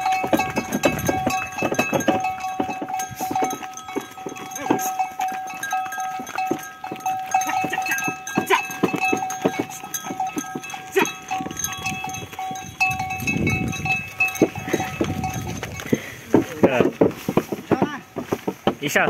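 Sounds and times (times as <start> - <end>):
cattle bells ringing: 0.0 - 18.2
hooves and cart knocking: 0.0 - 19.0.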